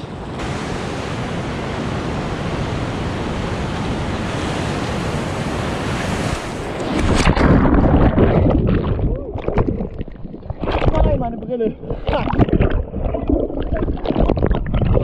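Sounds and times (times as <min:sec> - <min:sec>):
surf washing over stones: 0:00.0 - 0:14.3
wind buffeting microphone: 0:00.0 - 0:15.0.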